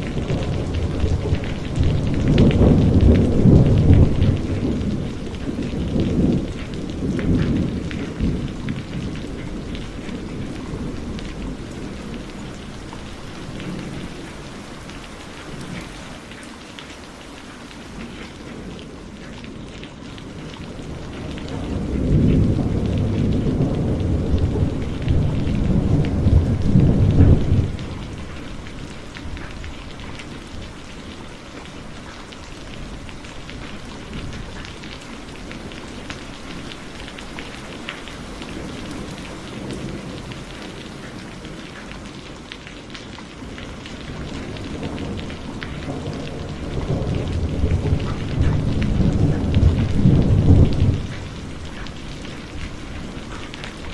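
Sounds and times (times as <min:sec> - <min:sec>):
thunder rumbling: 0:00.0 - 0:16.4, 0:17.9 - 0:42.1, 0:43.4 - 0:53.9
heavy rain falling: 0:00.0 - 0:53.9.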